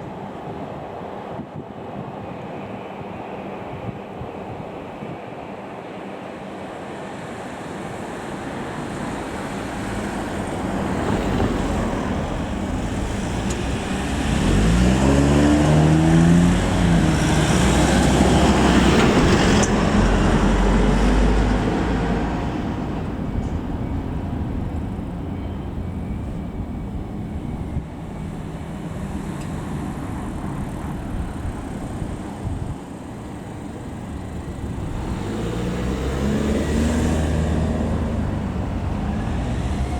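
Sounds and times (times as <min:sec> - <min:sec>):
diesel locomotive rumble: 0:06.2 - 0:39.9.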